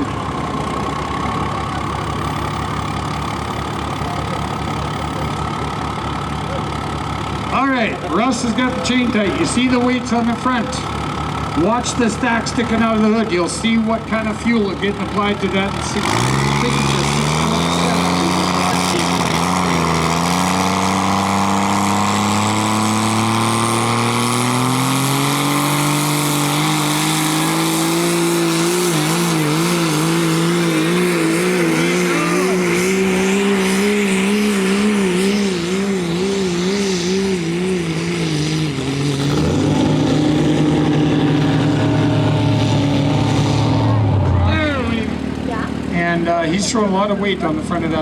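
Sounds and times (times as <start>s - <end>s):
diesel truck engine under load: 0.0s - 48.0s.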